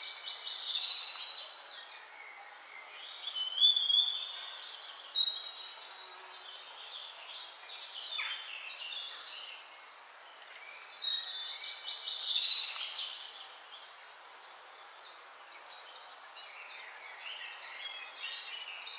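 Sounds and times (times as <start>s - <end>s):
birds chirping and singing: 0.0s - 18.9s
faint steady hiss: 0.0s - 18.9s.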